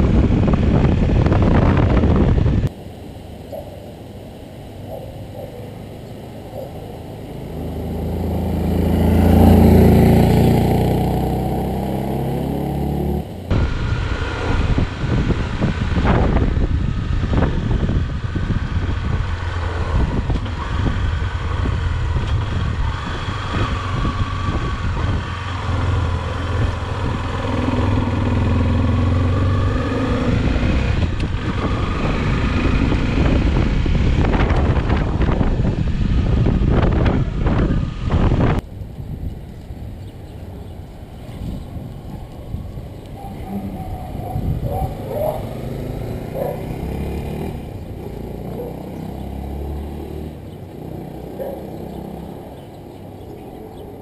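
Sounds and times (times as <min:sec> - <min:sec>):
motorcycle engine while riding: 0:00.0 - 0:02.7, 0:04.8 - 0:54.0
motorcycle engine passing by: 0:04.9 - 0:38.6, 0:40.0 - 0:54.0.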